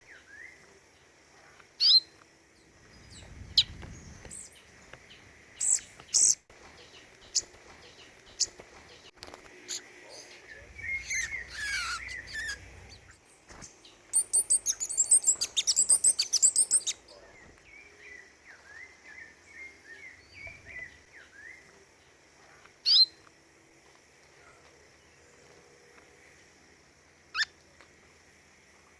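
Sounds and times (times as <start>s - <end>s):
small songbirds singing: 0.0s - 23.5s, 24.1s - 28.9s.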